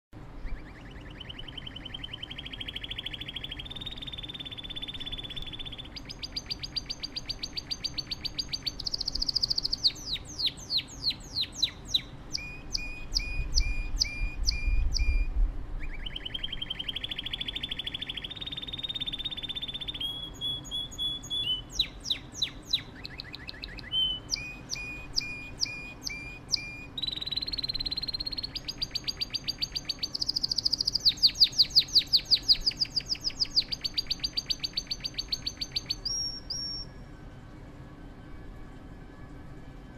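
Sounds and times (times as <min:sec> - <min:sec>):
canary singing trills: 0:00.3 - 0:36.9.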